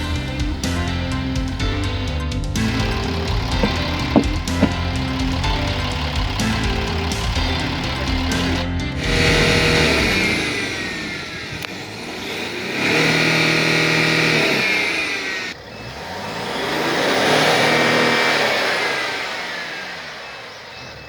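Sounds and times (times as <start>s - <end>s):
diesel engine revving: 0.6s - 21.0s.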